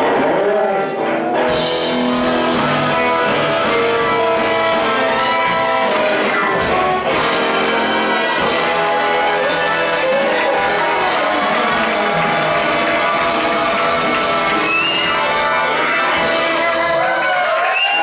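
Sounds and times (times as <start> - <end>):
drums: 0.0 - 18.0
electric guitars: 0.0 - 18.0
horns holding long notes: 0.0 - 18.0.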